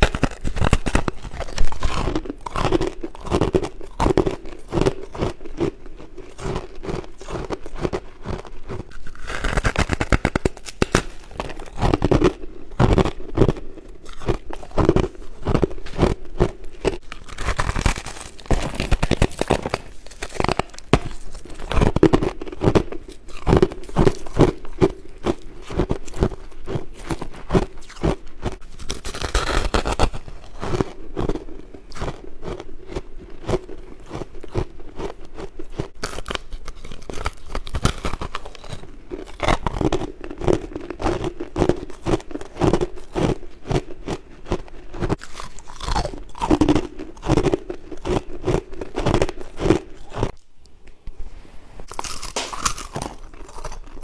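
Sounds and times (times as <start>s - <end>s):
person chewing crunchy frost: 0.0s - 50.5s, 51.8s - 54.0s.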